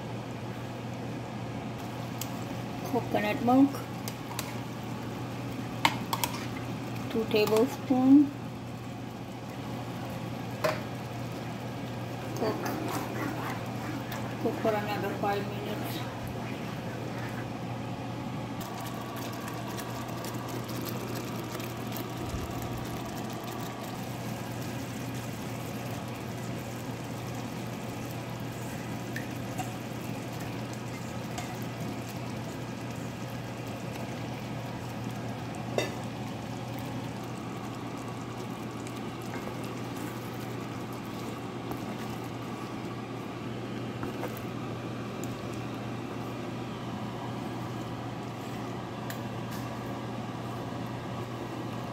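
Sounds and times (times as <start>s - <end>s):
gravy bubbling in a pan: 0.0s - 51.9s.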